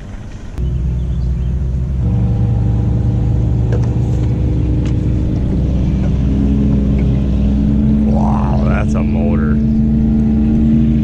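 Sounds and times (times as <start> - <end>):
outboard motor running: 0.6 - 11.0.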